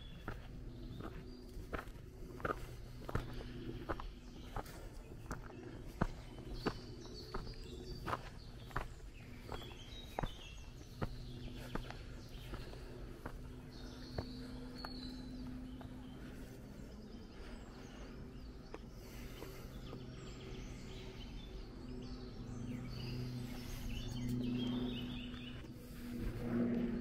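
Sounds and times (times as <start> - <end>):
birds chirping: 0.0 - 27.0
footsteps on dirt trail: 0.0 - 27.0
low steady hum: 0.0 - 27.0.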